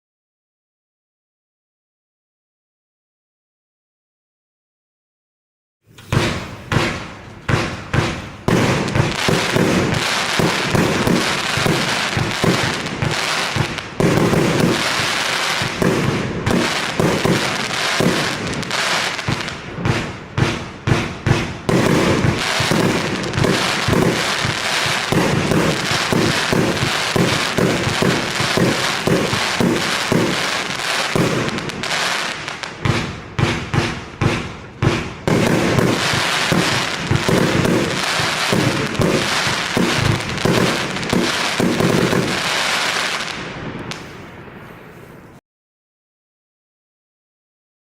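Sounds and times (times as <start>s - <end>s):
firework crackling pops: 5.9s - 45.4s.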